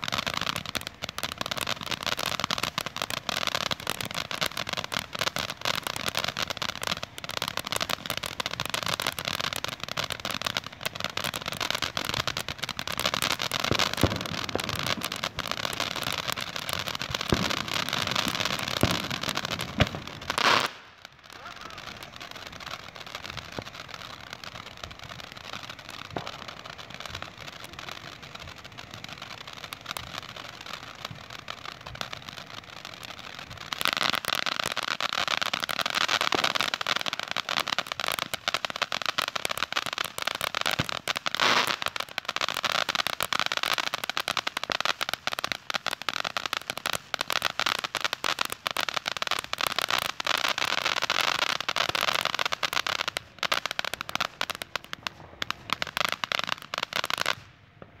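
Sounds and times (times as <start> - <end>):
firework fountain hissing and crackling: 0.0 - 58.0.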